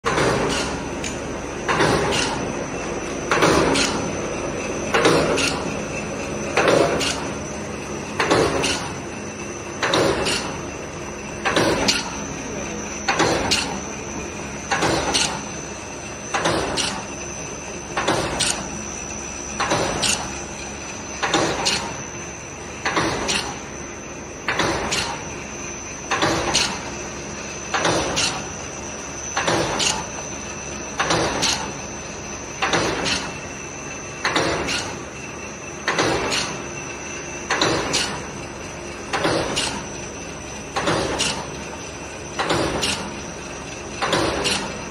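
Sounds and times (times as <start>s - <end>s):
machine high whine: 0.0s - 44.9s.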